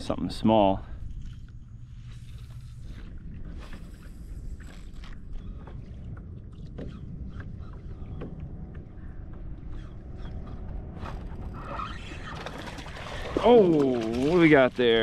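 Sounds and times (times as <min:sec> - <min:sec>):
low rumble of water and wind: 0:00.0 - 0:15.0.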